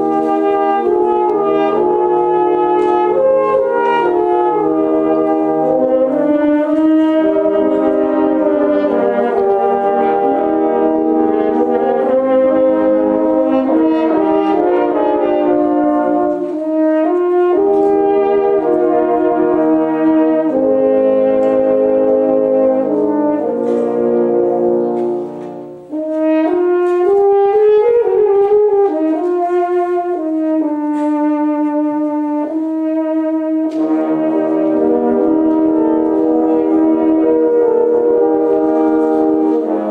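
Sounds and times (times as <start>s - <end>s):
french horns playing chords: 0.0s - 39.9s.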